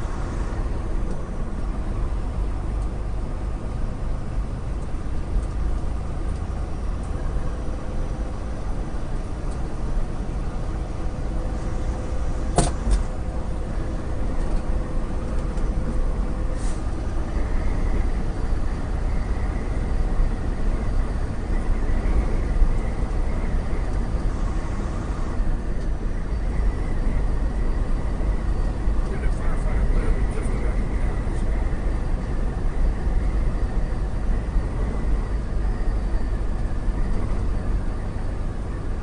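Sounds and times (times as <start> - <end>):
truck engine and road noise: 0.0 - 39.0.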